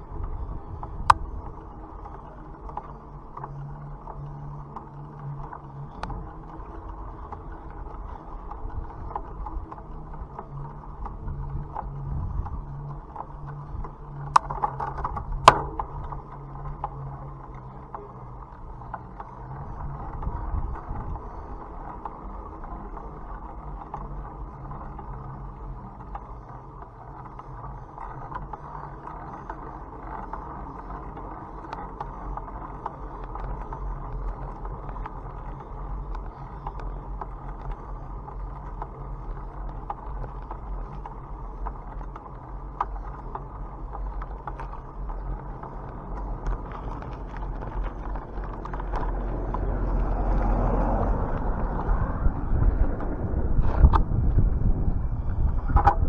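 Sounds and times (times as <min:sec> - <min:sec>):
bicycle tyres rushing on road: 0:00.0 - 0:56.0.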